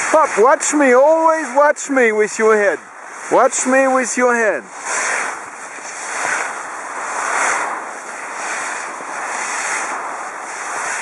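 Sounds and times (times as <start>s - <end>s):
skis scraping over snow: 0.0s - 11.0s.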